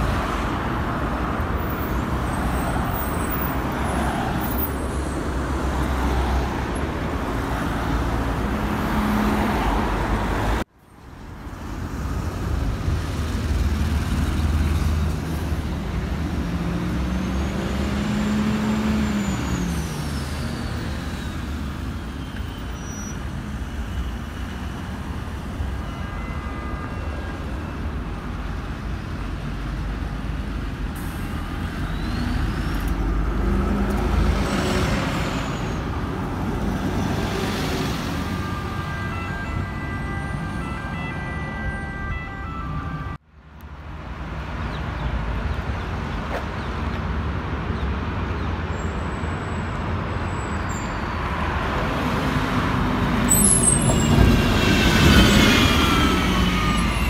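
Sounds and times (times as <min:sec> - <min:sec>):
steady road noise: 0:00.0 - 0:57.0
vehicles driving past: 0:00.0 - 0:57.0.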